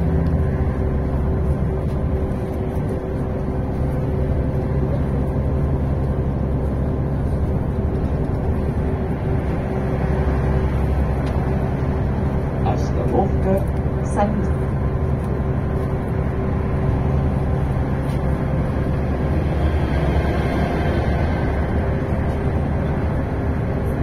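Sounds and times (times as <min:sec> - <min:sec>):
bus engine drone: 0:00.0 - 0:24.0
road rumble: 0:00.0 - 0:24.0
steady low whine: 0:00.0 - 0:24.0.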